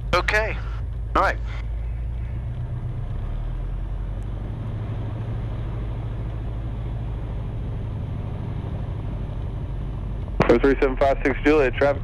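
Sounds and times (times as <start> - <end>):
aircraft engine droning in cabin: 0.0 - 4.3, 5.9 - 12.0.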